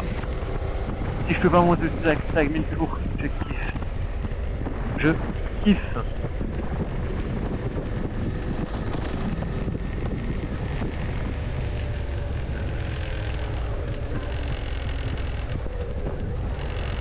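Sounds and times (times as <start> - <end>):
motorcycle engine cruising: 0.0 - 17.0
wind rush on microphone: 0.0 - 17.0.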